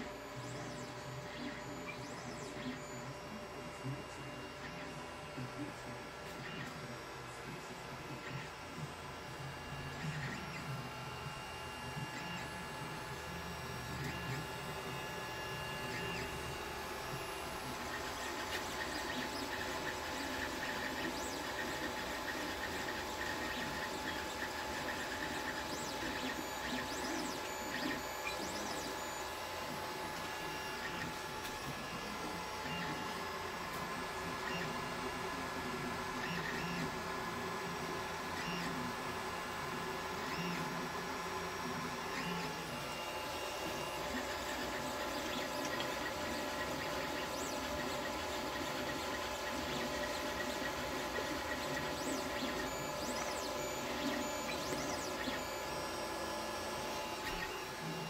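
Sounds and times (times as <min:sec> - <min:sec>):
fans humming: 0:00.0 - 0:58.0
printer motors whirring: 0:00.0 - 0:58.0.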